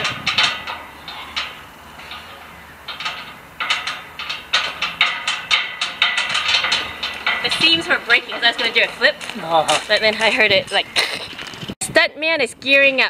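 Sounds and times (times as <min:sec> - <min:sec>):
metal gate rattling and clicking: 0:00.0 - 0:11.7.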